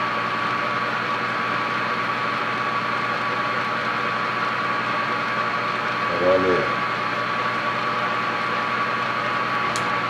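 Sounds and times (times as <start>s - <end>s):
lathe whirring with high whine: 0.0s - 10.0s.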